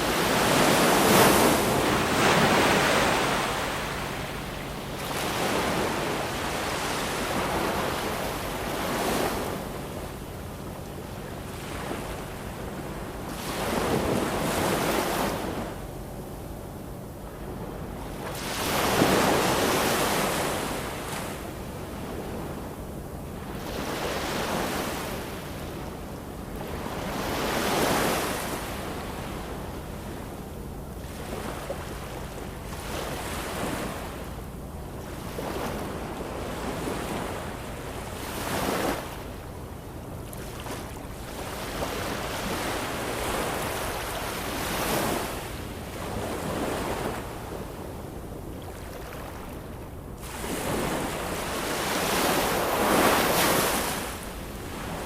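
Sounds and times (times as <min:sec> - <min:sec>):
ocean waves breaking ashore: 0:00.0 - 0:55.0.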